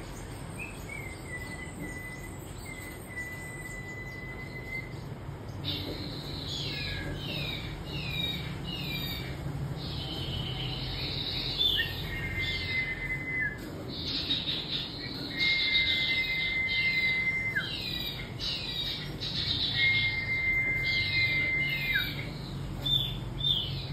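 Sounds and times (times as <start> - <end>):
songbird singing whistled notes: 0.0 - 23.9.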